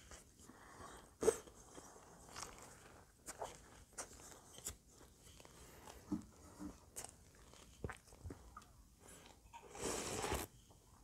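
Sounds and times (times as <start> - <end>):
person chewing food: 1.0 - 10.5.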